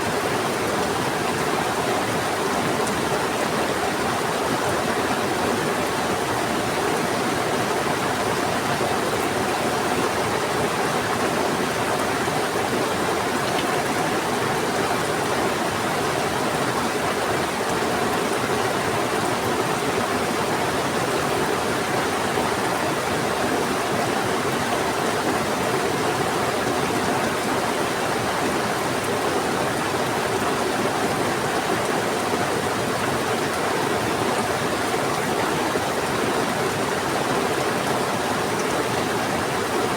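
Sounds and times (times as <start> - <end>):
fast-flowing river: 0.0 - 39.9.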